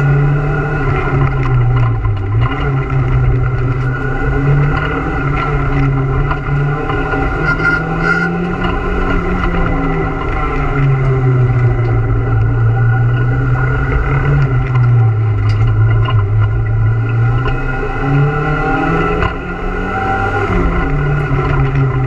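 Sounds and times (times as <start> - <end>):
car engine under hard driving: 0.0 - 22.0.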